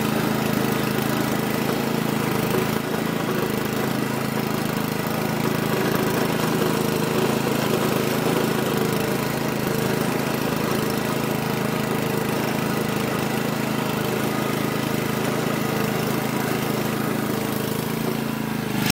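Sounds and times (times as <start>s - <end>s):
ride-on mower engine running: 0.0s - 18.9s.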